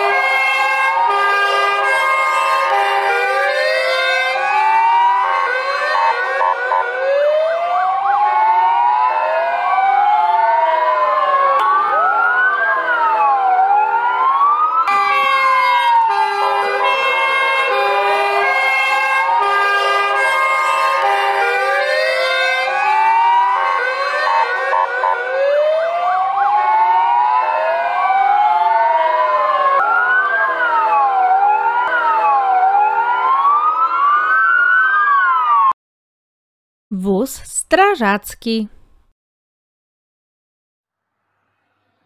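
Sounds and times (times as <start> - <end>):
fire engine sirens wailing: 0.0 - 35.8.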